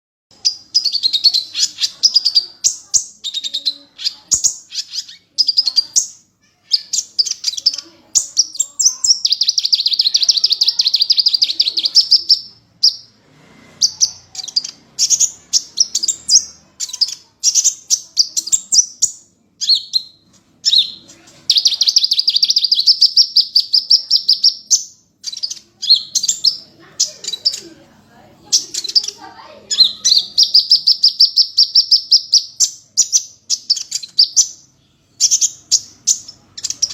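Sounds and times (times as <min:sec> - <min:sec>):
small bird chirping: 0:00.3 - 0:36.9
bird trills: 0:00.4 - 0:13.2, 0:13.8 - 0:27.7, 0:28.5 - 0:36.9.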